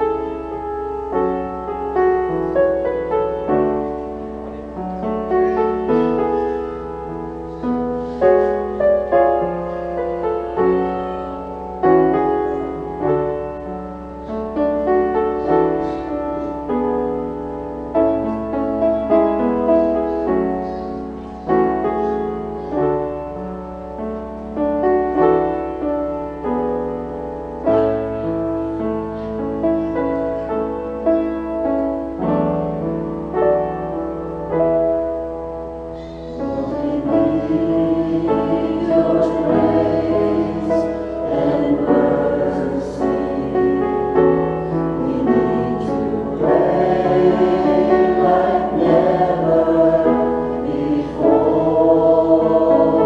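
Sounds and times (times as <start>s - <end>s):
grand piano playing: 0.0s - 53.0s
steady low hum: 0.0s - 53.0s.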